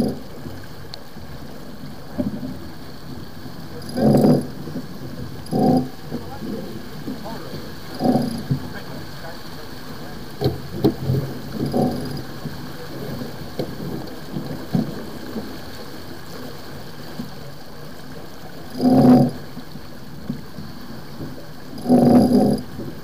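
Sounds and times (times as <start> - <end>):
wind and water rushing: 0.0 - 23.0.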